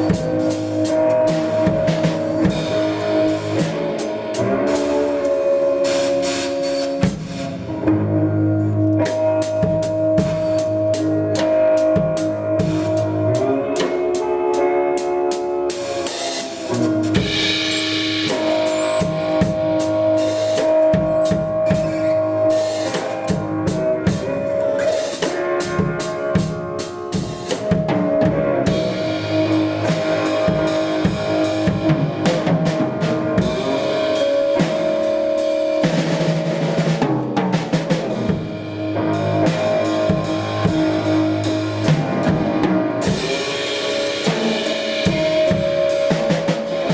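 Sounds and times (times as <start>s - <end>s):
blues band music: 0.0s - 46.9s.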